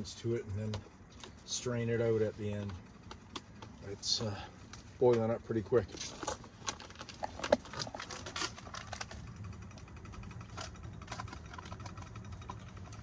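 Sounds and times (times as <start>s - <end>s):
pot bubbling at the boil: 2.3s - 13.0s.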